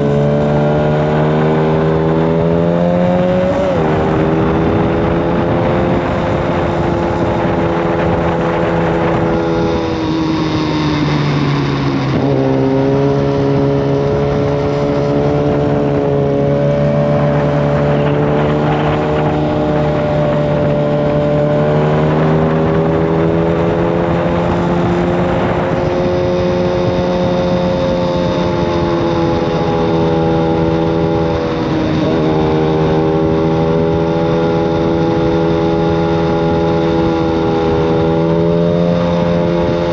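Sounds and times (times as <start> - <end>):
loud motorcycle engine cruising: 0.0 - 39.9
wind and road noise: 0.0 - 39.9.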